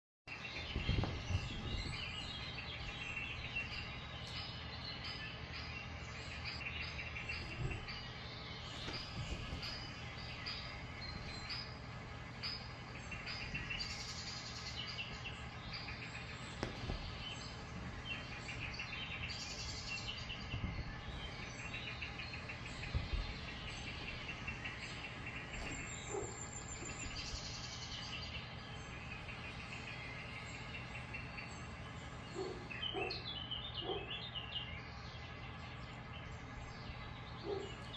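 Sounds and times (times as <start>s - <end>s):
bird-like chirping: 0.3s - 37.9s
steady low hum: 0.3s - 37.9s.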